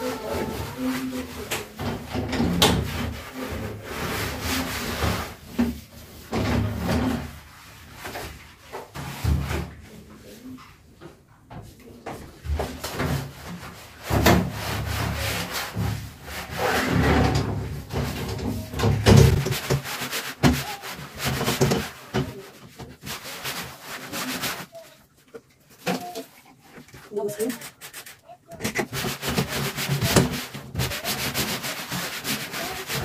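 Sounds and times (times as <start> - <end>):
scrubbing and wiping surfaces: 0.0 - 33.0.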